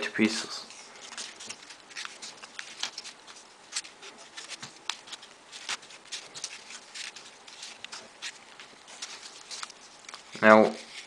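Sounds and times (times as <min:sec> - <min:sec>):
paper clicks and rustles: 0:00.7 - 0:11.0.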